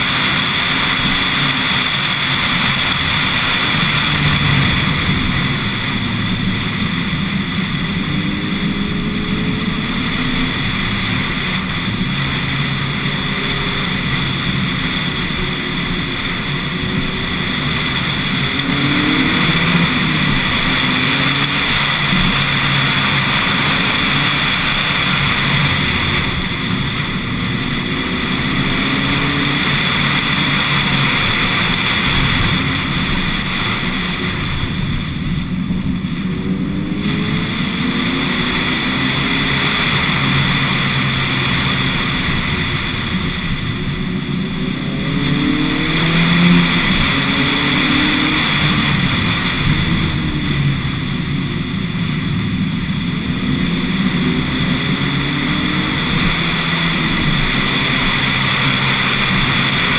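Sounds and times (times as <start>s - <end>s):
car engine revving: 0.0s - 59.9s
wind and road rush: 0.0s - 59.9s.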